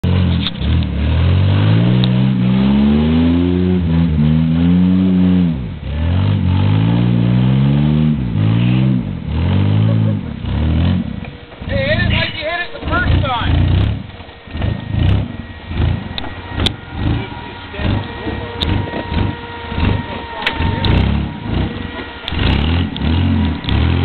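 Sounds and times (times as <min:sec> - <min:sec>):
off-road engine revving hard: 0:00.0 - 0:24.0.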